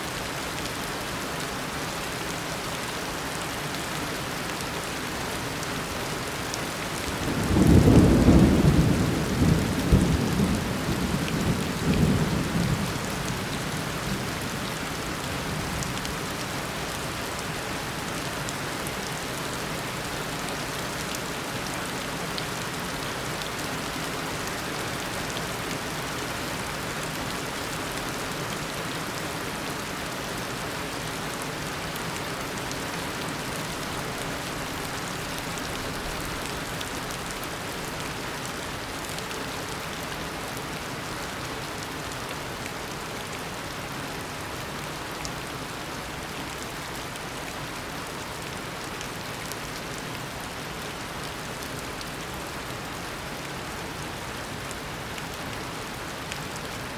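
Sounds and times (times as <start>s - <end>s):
heavy rain downpour: 0.0s - 56.9s.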